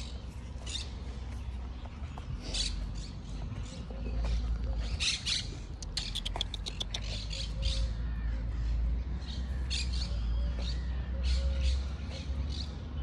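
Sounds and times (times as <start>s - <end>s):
steady low rumble: 0.0s - 12.4s
birds squawking and chattering: 0.0s - 13.0s.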